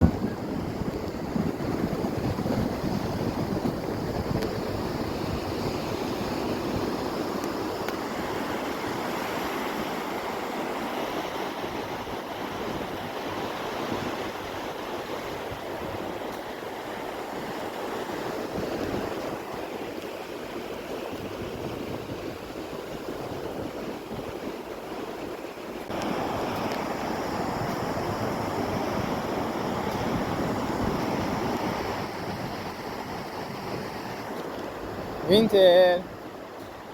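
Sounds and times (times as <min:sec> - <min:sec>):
wind on microphone: 0:00.0 - 0:35.4
ocean surf washing on beach: 0:00.0 - 0:36.9.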